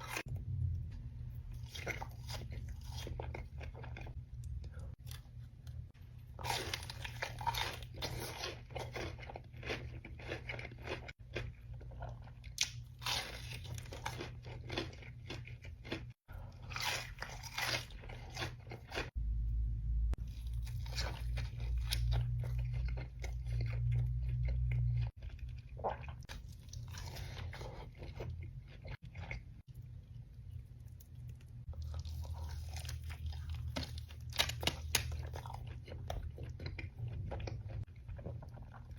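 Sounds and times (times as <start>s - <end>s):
crunchy bites and chewing: 1.5s - 5.4s, 6.3s - 19.2s, 20.2s - 29.5s, 31.0s - 38.9s.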